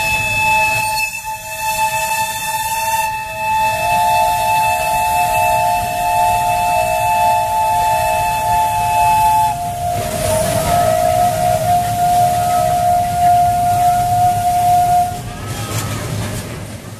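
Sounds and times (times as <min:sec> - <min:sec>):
low rumble of moving locomotive: 0:00.0 - 0:16.9
steam locomotive whistles: 0:00.0 - 0:16.9.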